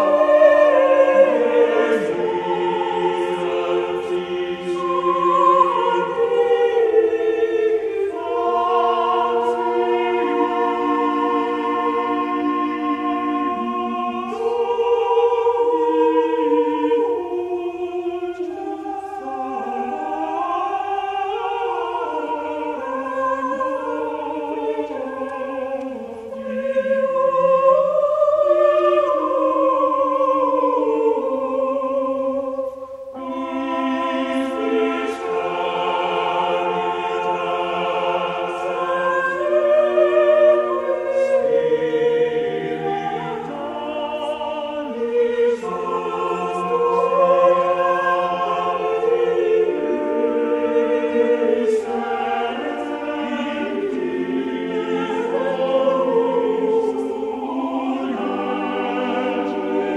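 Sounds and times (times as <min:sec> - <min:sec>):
choral singing in harmony: 0:00.0 - 0:59.9.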